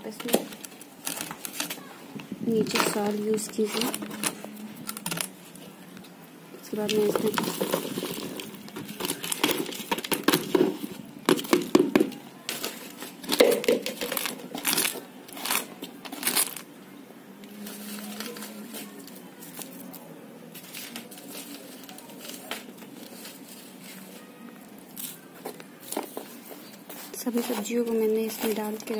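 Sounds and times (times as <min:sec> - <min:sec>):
soil and leaves rustling: 0:00.0 - 0:28.9.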